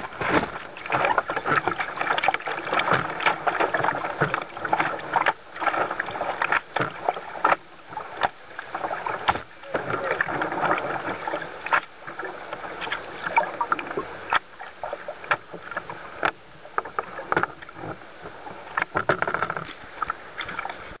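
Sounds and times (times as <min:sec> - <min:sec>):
moving water washing: 0:00.0 - 0:21.0
water slapping against canoe hull: 0:00.0 - 0:21.0.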